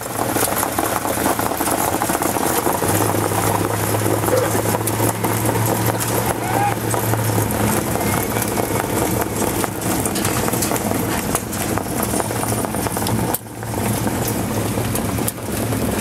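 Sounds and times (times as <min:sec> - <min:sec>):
engine and road drone: 0:00.0 - 0:16.0.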